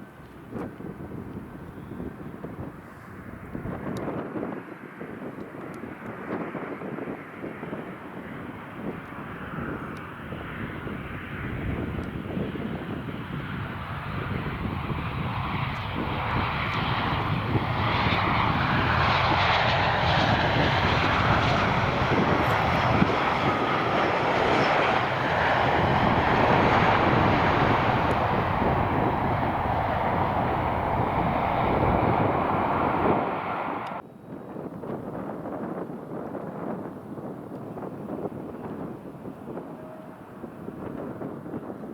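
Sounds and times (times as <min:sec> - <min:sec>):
jet aircraft engine noise: 0:00.0 - 0:41.9.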